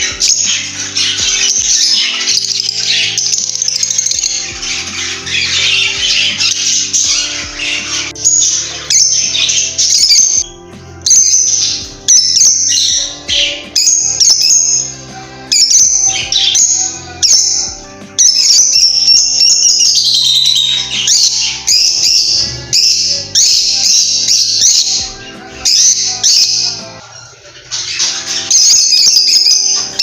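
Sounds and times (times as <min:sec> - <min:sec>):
background music: 0:00.0 - 0:30.0
lovebirds chirping and squawking: 0:00.0 - 0:30.0.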